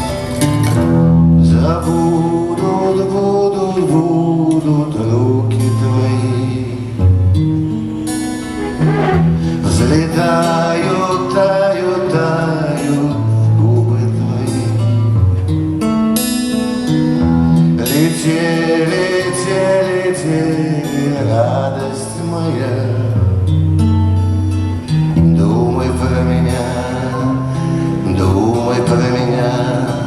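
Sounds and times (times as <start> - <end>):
acoustic guitar strummed and plucked: 0.0 - 30.0.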